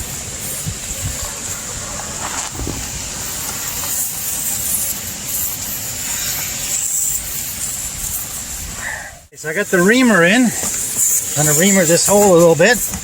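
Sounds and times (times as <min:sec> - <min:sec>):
tool knocking and rubbing in tire: 0:00.0 - 0:08.6, 0:10.6 - 0:13.0
rain hissing: 0:00.0 - 0:13.0.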